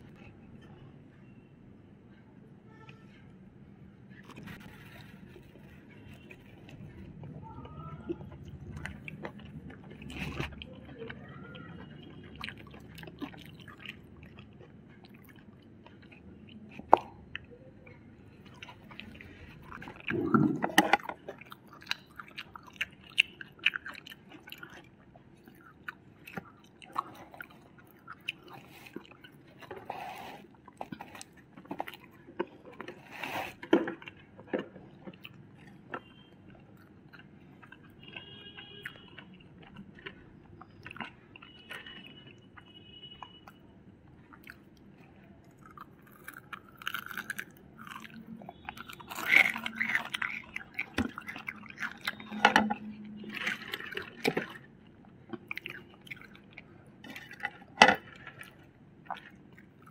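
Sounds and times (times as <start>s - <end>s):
chewing and crunching: 4.1s - 59.9s.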